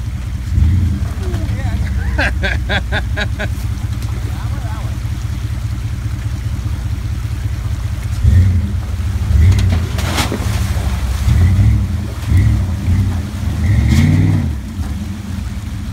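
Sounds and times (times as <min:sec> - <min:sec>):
truck engine idling and revving: 0:00.0 - 0:15.9
water splashing around tyres: 0:00.0 - 0:15.9.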